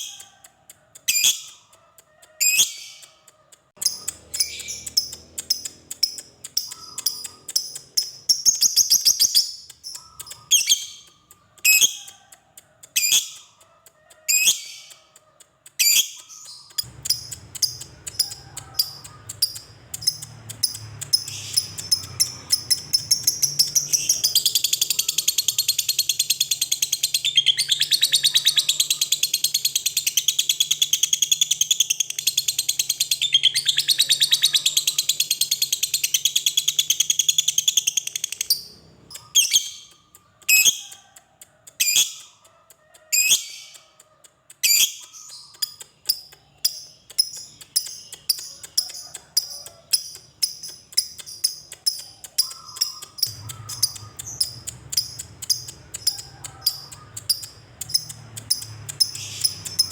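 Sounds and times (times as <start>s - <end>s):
lovebird chirping and trilling: 0.0s - 42.5s, 43.1s - 59.9s.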